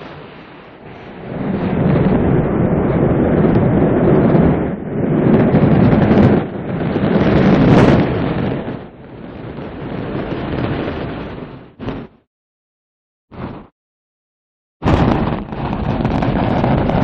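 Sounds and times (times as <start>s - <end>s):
rocket engine roar: 0.0s - 12.2s, 14.8s - 17.0s.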